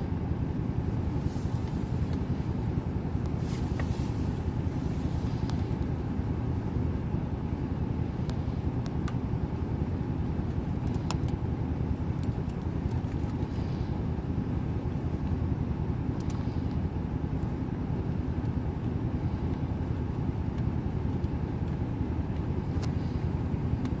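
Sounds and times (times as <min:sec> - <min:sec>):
vehicle idling rumble: 0:00.0 - 0:24.0.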